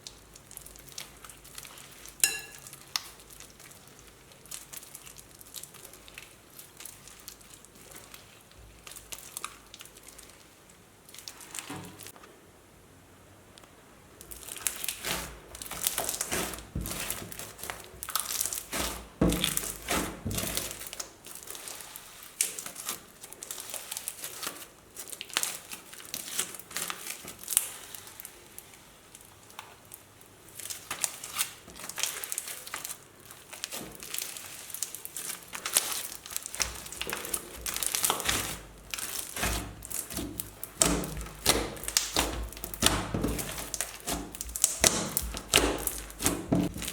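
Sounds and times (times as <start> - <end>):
crunchy slime crackling and popping: 0.0 - 12.2, 14.2 - 46.9.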